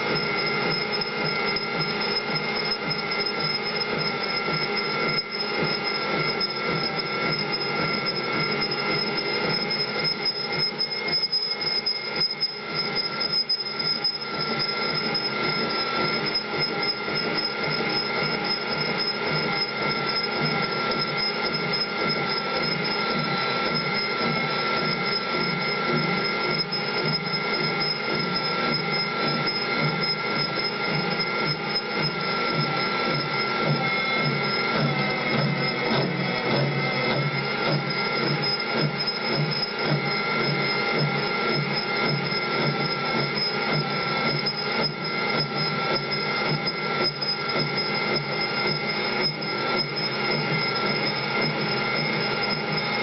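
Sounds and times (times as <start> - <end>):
high-pitched machine squeal: 0.0 - 53.0
rough mechanical noise: 0.0 - 53.0.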